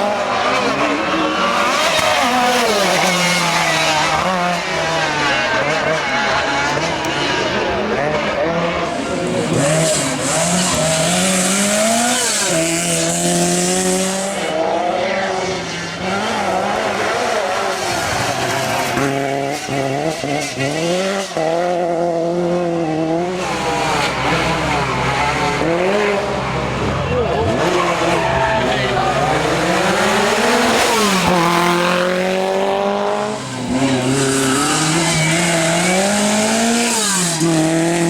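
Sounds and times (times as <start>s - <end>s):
rally car engine revving hard: 0.0s - 38.0s
tyres skidding: 0.0s - 38.0s.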